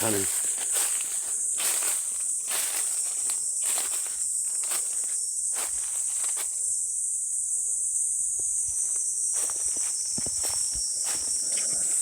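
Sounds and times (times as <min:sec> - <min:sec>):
footsteps rustling through undergrowth: 0:00.0 - 0:06.6, 0:08.4 - 0:12.0
insects chirping: 0:00.0 - 0:12.0.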